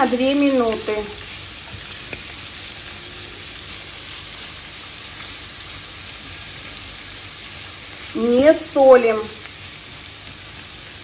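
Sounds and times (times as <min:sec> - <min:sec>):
meat and onion sizzling in oil: 0:00.0 - 0:11.0.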